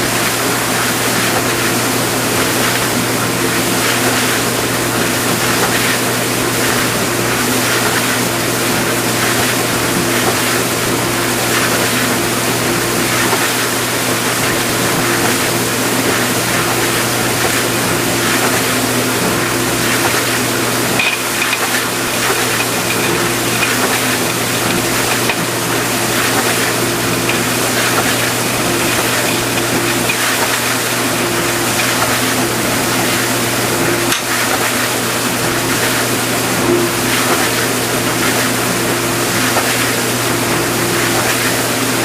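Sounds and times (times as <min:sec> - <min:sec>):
pump motor hum: 0:00.0 - 0:42.0
water spraying inside dishwasher: 0:00.0 - 0:42.0.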